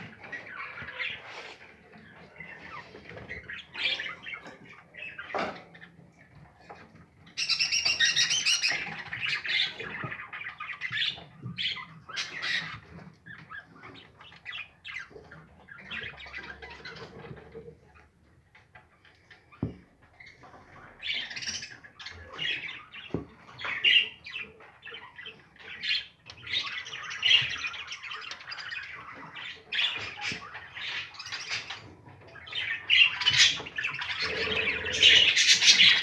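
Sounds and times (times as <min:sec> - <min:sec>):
budgerigars chirping and squawking: 0:00.0 - 0:36.0.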